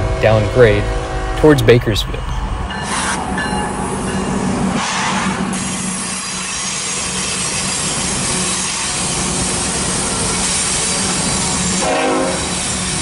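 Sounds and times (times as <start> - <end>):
locomotive braking whir: 0.0 - 13.0.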